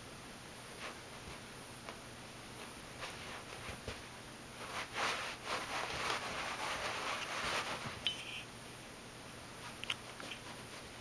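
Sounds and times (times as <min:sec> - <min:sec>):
kitten scuffling on carpet: 0:00.7 - 0:08.4, 0:09.6 - 0:11.0.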